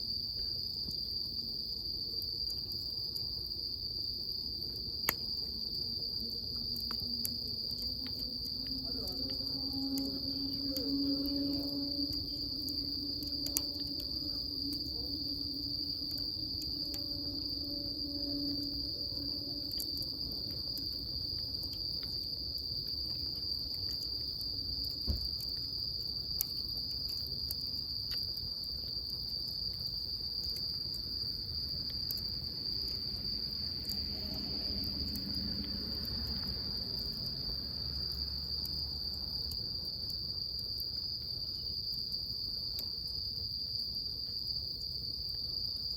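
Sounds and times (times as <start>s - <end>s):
high-pitched insect trill: 0.0s - 45.9s
faint crackle-like clicks: 2.1s - 3.5s, 4.4s - 37.4s, 38.0s - 45.9s.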